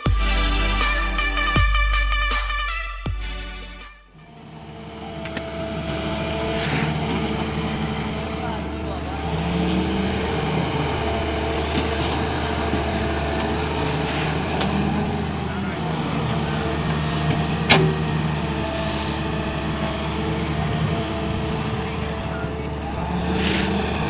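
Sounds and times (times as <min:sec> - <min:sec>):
diesel excavator engine: 0:00.0 - 0:24.0.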